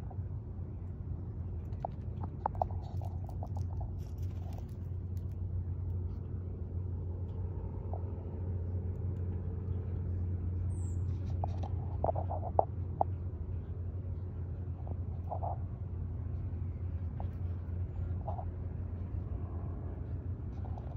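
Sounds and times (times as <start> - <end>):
steady low rumble: 0.0 - 20.9.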